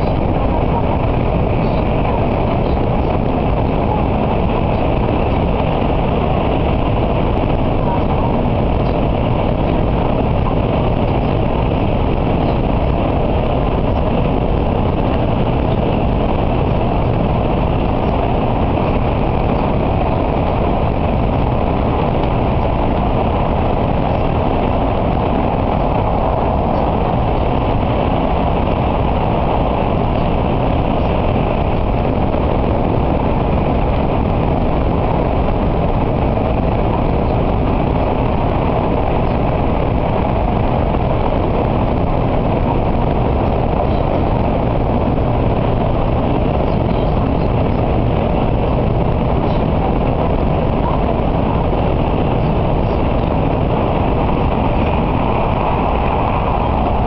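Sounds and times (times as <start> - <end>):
train running through tunnel: 0.0 - 57.0.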